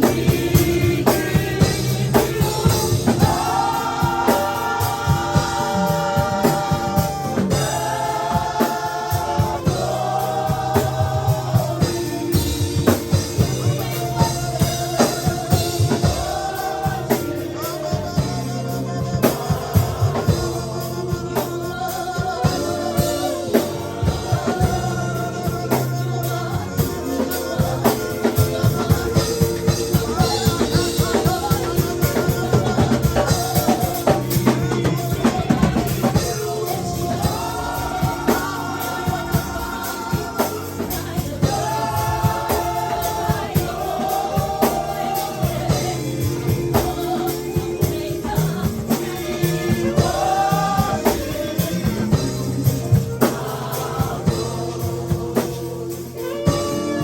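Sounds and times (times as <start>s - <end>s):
drum kit beat: 0.0s - 57.0s
singing over a band: 0.0s - 57.0s.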